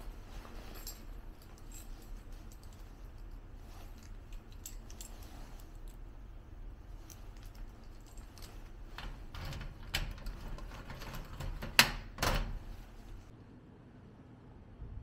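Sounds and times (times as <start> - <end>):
handling clicks and knocks: 0.0 - 13.3
low steady hum: 0.0 - 15.0.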